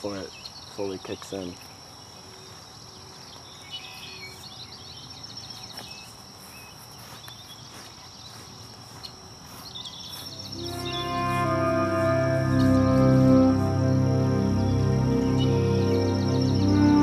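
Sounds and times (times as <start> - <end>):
bird chirps: 0.0 - 17.0
high insect drone: 0.0 - 17.0.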